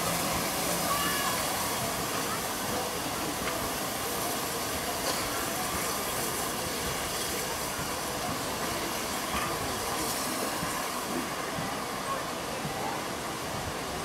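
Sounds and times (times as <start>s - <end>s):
steam hissing: 0.0s - 14.0s
steam locomotive rolling: 0.0s - 14.0s
wheels clicking on rails: 0.0s - 14.0s.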